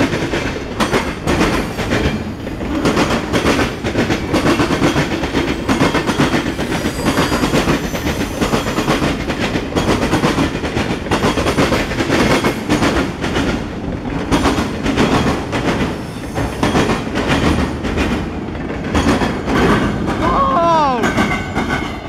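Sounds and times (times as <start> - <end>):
train wheels rumbling on rail: 0.0 - 22.0
wheels clickety-clack over rail joints: 0.0 - 22.0.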